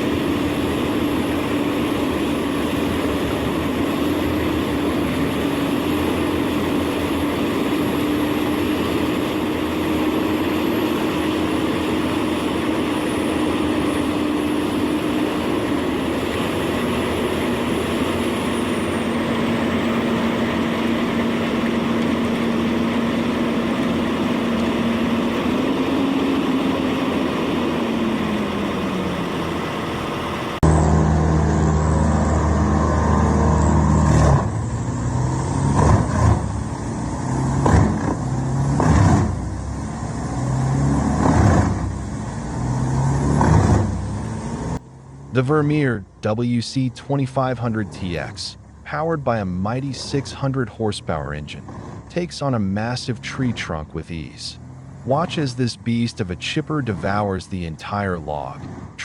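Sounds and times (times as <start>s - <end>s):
heavy engine labouring: 0.0s - 59.0s
wood chipper engine running: 0.0s - 59.0s.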